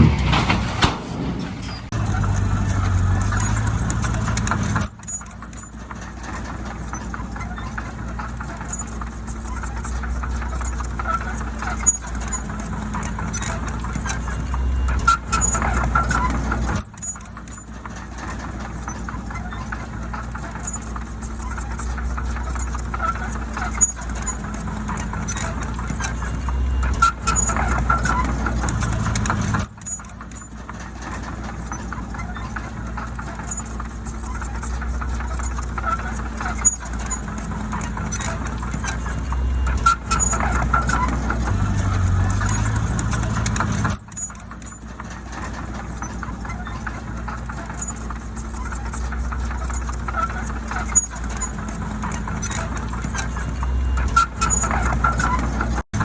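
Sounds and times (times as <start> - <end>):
diesel engine running: 0.0 - 56.0
metal clanks: 0.0 - 56.0.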